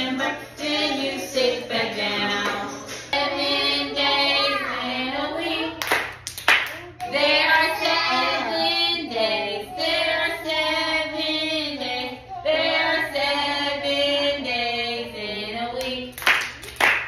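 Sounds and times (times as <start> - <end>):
woman and children singing: 0.0 - 6.1, 6.8 - 16.4.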